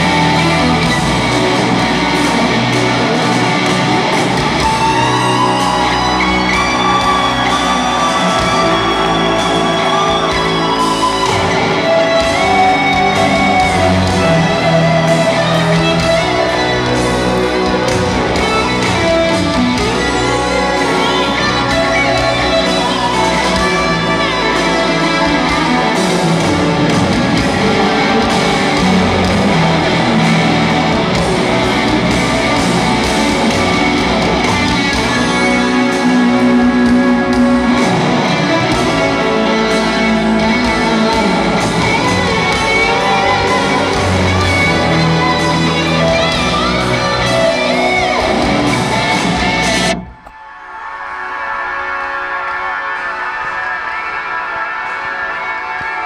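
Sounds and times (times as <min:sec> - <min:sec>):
electric guitar bending notes: 0:00.0 - 0:50.3
crowd shouting along: 0:00.0 - 0:56.0
live rock band: 0:00.0 - 0:56.0.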